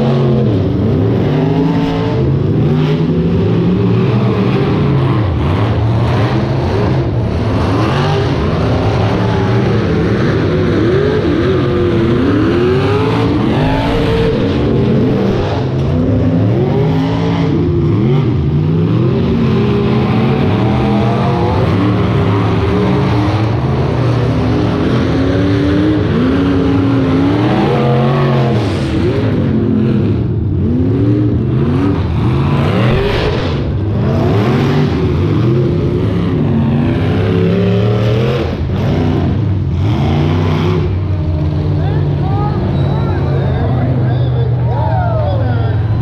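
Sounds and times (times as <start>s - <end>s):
car engines revving: 0.0s - 46.0s.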